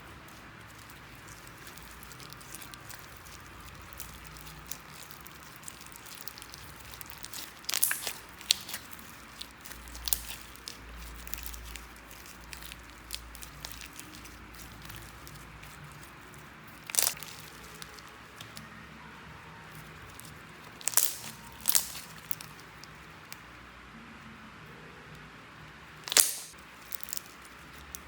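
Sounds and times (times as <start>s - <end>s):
slime being squished: 0.0s - 23.4s, 26.0s - 28.0s.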